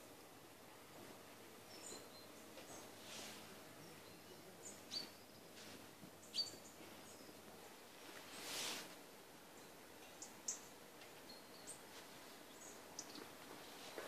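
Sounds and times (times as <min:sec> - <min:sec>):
quiet background hiss: 0:00.0 - 0:14.0
songbirds chirping: 0:00.0 - 0:14.0.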